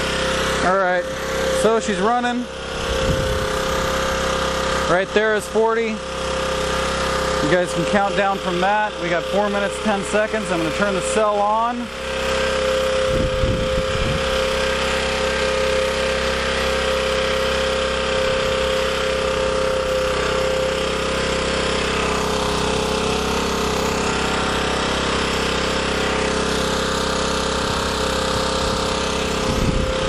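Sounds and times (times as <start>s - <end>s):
generator engine running: 0.0s - 30.0s.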